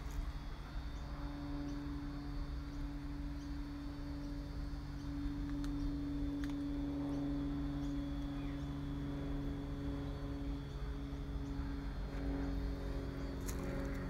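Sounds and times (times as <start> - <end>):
mechanical drone: 0.0 - 14.0.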